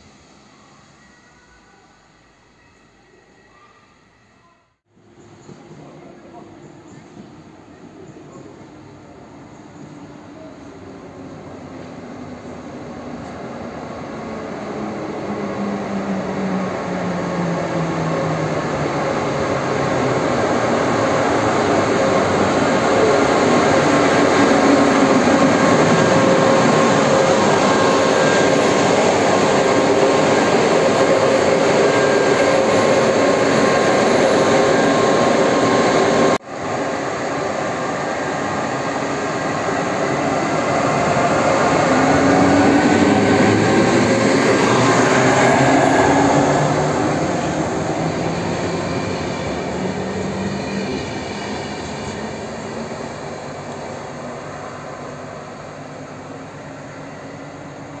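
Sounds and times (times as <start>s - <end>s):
electric locomotive running: 5.1s - 58.0s.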